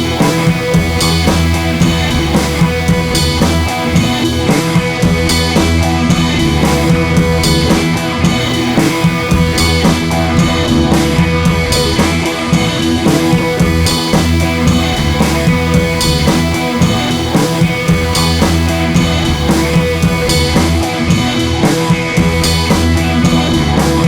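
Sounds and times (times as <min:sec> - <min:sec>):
rock music with drums and guitar: 0:00.0 - 0:24.0.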